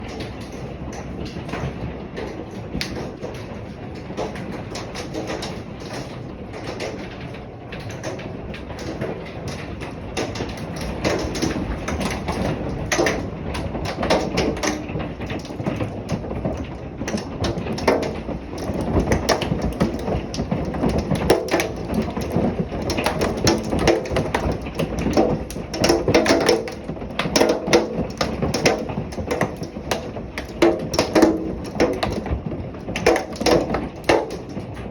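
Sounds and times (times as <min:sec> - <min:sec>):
sharp rattles and knocks: 0:00.0 - 0:34.9
wind and rain rushing: 0:00.0 - 0:34.9.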